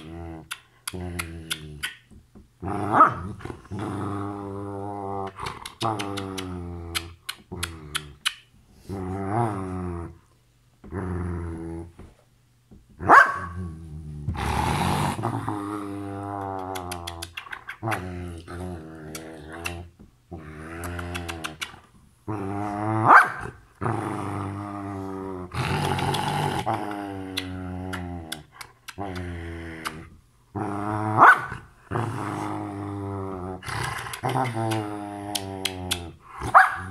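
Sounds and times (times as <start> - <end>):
dog growling and moaning: 0.0 - 2.0, 2.6 - 12.2, 13.0 - 36.9.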